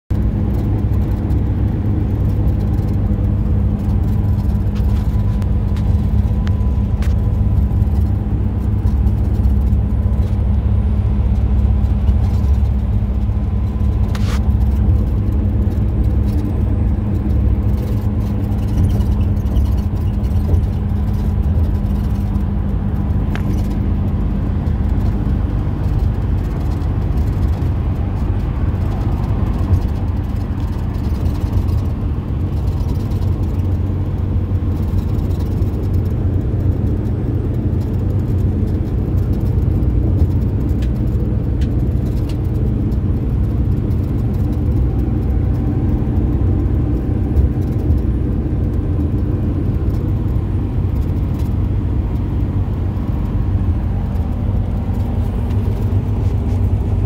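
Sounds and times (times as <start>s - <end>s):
bus engine and tyres droning: 0.1s - 57.0s.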